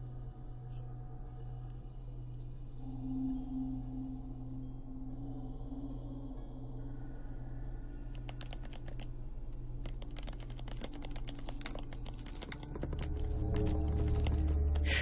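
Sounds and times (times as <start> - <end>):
steady low drone: 0.0 - 8.2, 10.9 - 15.0.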